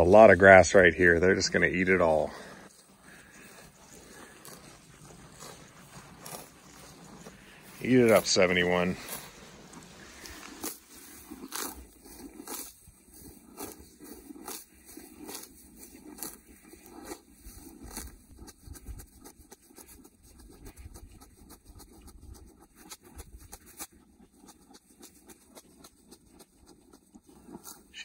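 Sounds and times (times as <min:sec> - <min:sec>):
cow tearing grass: 0:00.0 - 0:28.0.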